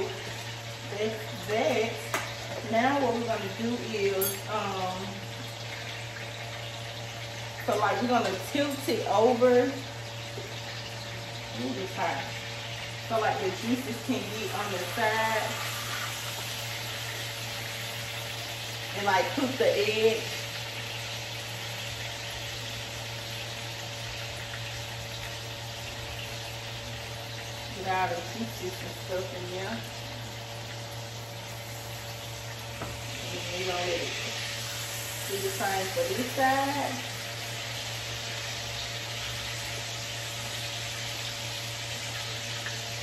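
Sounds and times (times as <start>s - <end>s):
steak sizzling in a pan: 0.0s - 43.0s.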